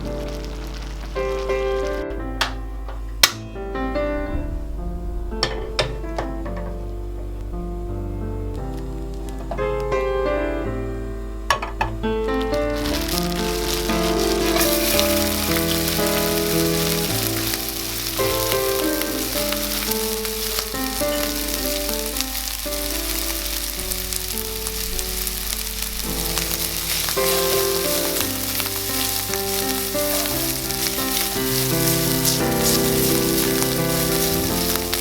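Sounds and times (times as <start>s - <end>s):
food sizzling in frying pan: 0.0s - 3.4s, 8.6s - 10.0s, 11.5s - 35.0s
instrumental background music: 0.0s - 35.0s.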